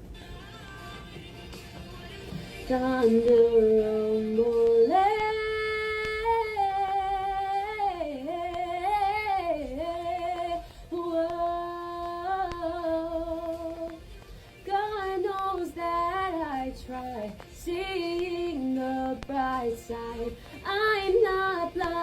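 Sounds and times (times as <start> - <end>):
woman singing wordless melody: 2.3 - 22.0.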